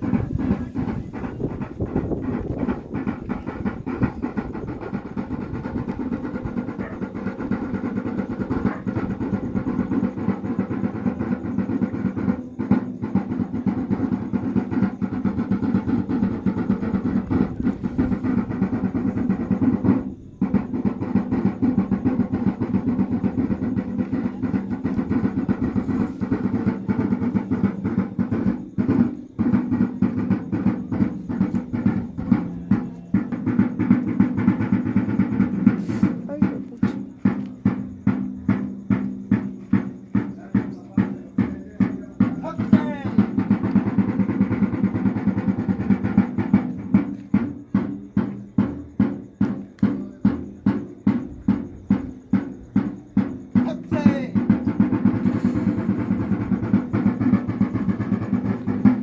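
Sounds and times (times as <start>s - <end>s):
drum beaten in fast roll: 0.0s - 59.0s.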